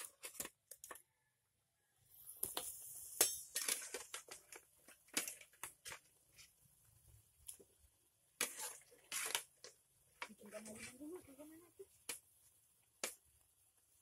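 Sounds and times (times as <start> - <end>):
food frying in a wok: 2.1 - 14.0
wood fire crackling: 2.1 - 14.0.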